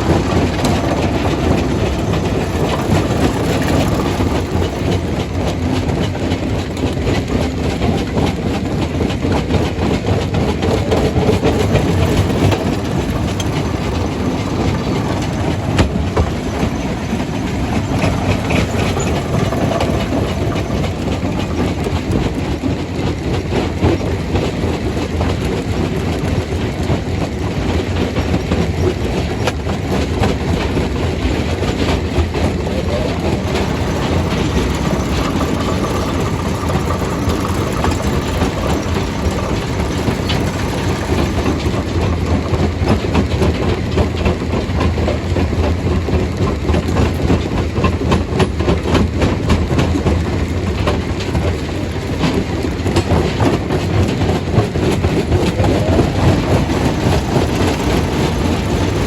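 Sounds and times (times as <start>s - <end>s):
jaw crusher rumbling: 0.0s - 25.5s, 28.0s - 59.0s.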